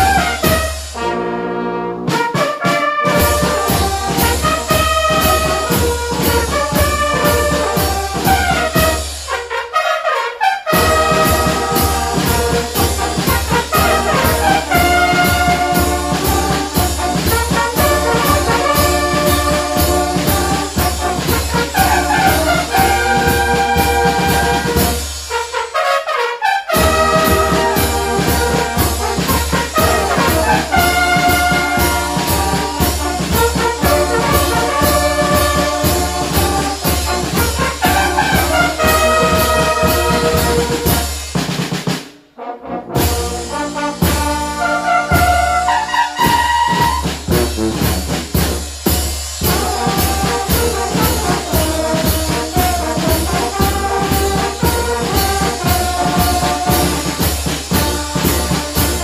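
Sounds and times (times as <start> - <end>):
brass horn melody: 0.0 - 59.0.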